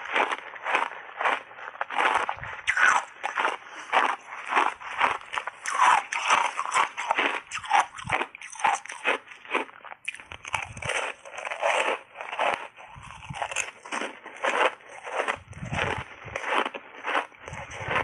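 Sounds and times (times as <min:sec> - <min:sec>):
crunching ice chunks in mouth: 0:00.0 - 0:18.0.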